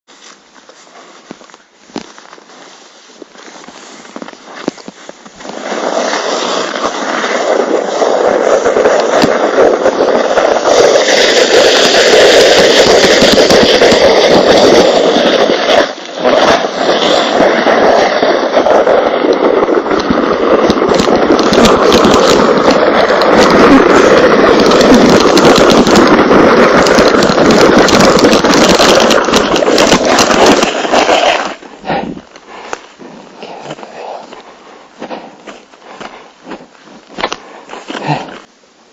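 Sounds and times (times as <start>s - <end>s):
sled scraping on snow: 0.1s - 38.5s.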